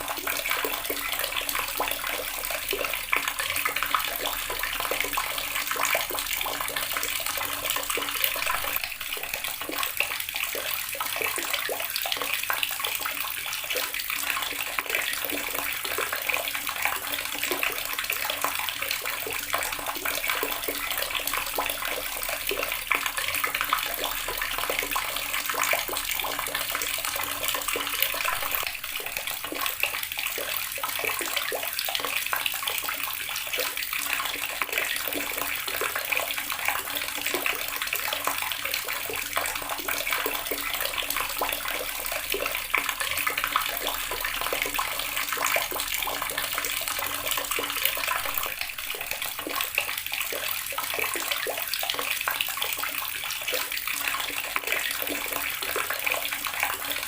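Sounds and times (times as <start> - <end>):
tap water splashing into basin: 0.0 - 57.0.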